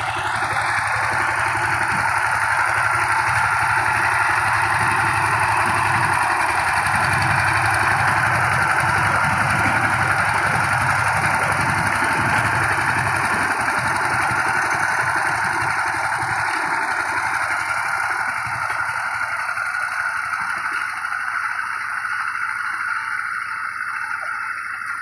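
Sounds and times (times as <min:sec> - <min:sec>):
tiller engine running: 0:00.0 - 0:25.0.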